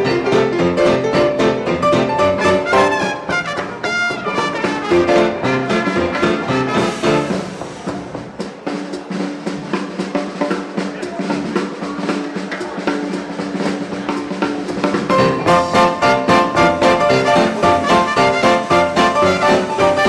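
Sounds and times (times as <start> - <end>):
band holding low notes: 0.0 - 9.8, 10.7 - 20.0
drum kit snare rolls: 0.0 - 20.0.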